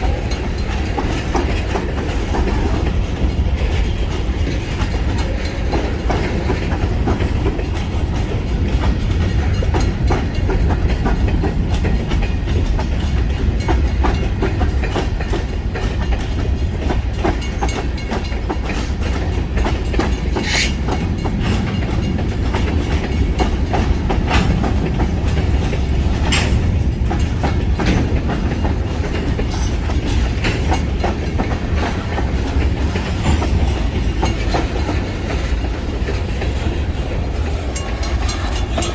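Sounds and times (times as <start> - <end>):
freight train rumbling: 0.0 - 38.9
wheels clacking over rail joints: 0.0 - 38.9.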